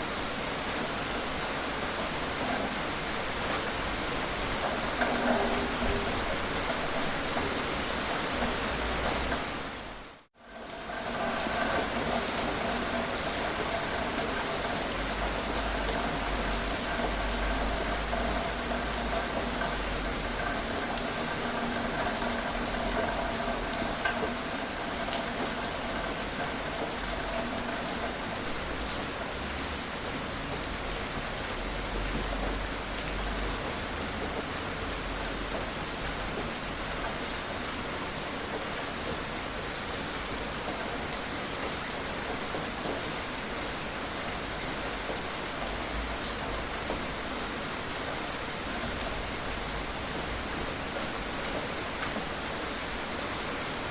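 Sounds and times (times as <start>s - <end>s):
gentle rain falling: 0.0s - 53.9s.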